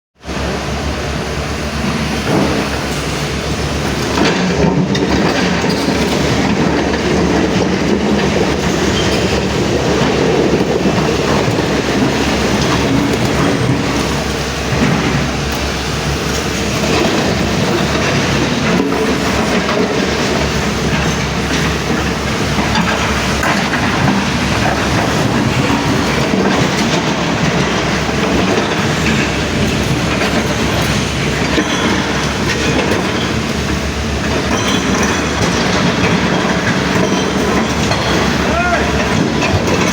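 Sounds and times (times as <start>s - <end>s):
truck engine rattling: 0.3s - 39.9s.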